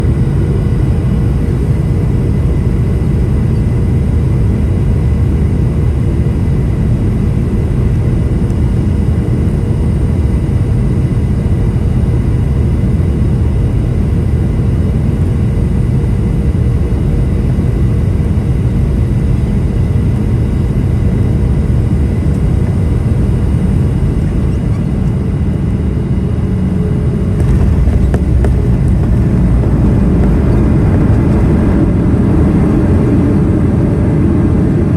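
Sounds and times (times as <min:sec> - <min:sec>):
aircraft engine and airflow rumble: 0:00.0 - 0:34.9
steady whine: 0:00.0 - 0:34.9.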